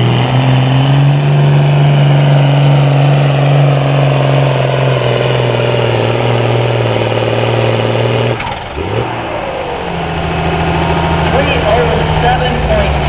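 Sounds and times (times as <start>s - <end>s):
short rising whine: 0.0s - 13.0s
tractor engine running hard: 0.0s - 13.0s.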